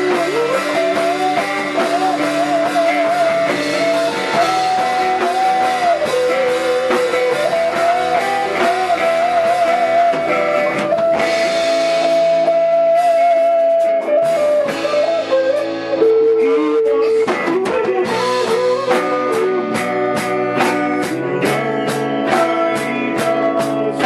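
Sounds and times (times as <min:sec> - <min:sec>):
melody of held notes: 0:00.0 - 0:23.9
drum kit: 0:00.0 - 0:24.0
guitars: 0:00.0 - 0:24.0.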